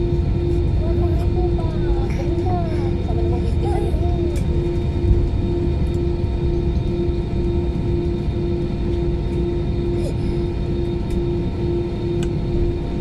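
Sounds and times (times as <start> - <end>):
airliner engine and rolling rumble: 0.0 - 13.0
steady droning hum: 0.0 - 13.0.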